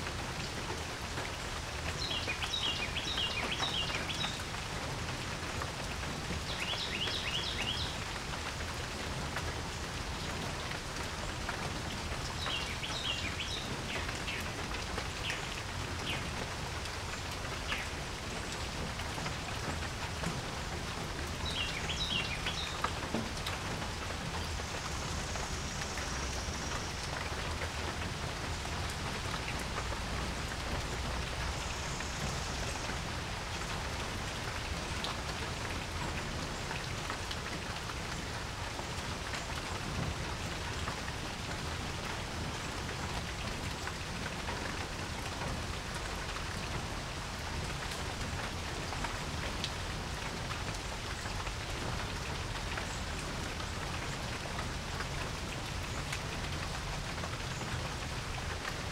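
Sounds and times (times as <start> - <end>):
rain falling on a porch: 0.0 - 58.9.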